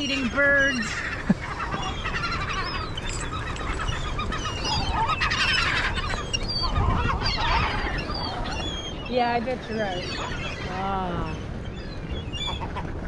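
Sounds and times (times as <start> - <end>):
seagulls squawking: 0.0 - 13.0
wind rumbling on microphone: 0.0 - 13.0.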